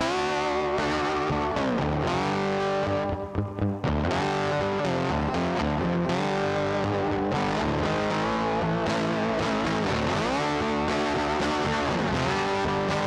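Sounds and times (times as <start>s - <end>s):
electric guitar music: 0.0s - 13.0s.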